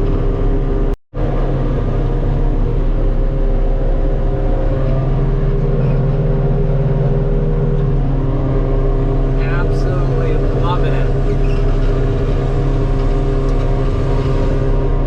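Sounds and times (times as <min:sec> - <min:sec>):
harvester engine running: 0:00.0 - 0:15.0.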